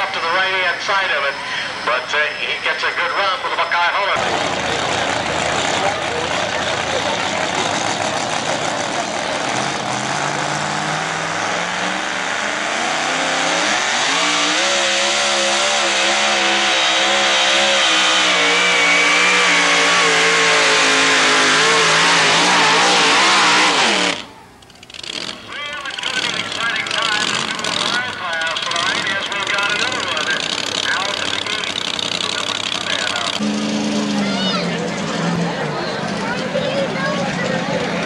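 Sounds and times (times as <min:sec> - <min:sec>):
truck engine at full throttle: 0:00.0 - 0:38.0.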